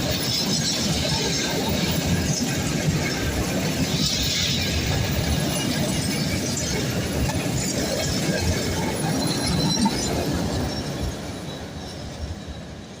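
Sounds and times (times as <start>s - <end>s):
freight train wagons rumbling: 0.0s - 13.0s.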